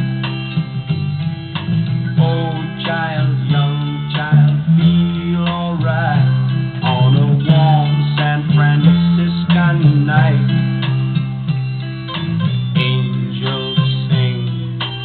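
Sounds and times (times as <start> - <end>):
guitar-led rock music: 0.0 - 15.0.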